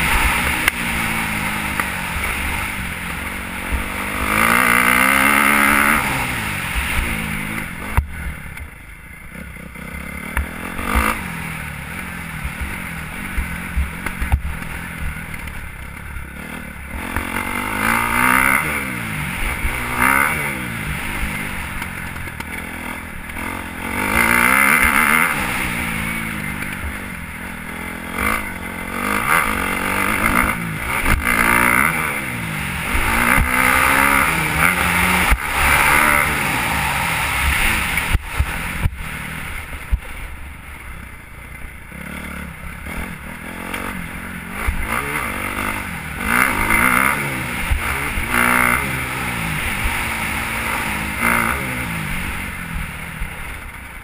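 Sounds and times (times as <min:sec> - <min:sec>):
dirt bike engine revving: 0:00.0 - 0:40.3, 0:41.0 - 0:53.8.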